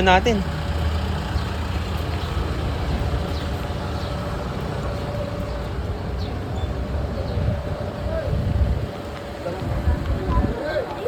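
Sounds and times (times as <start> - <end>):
street traffic rumble: 0.0 - 11.0
vehicles passing: 0.0 - 11.0.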